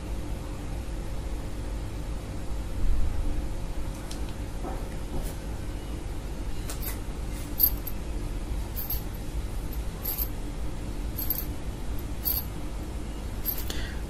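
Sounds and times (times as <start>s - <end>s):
low hum of room noise: 0.0s - 14.0s.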